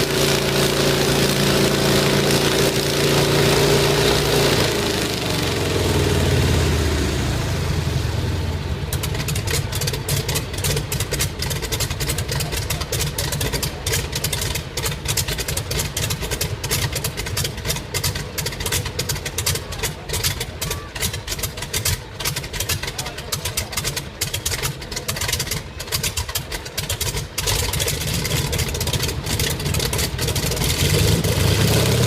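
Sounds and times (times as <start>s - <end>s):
aero engine running: 0.0s - 32.0s.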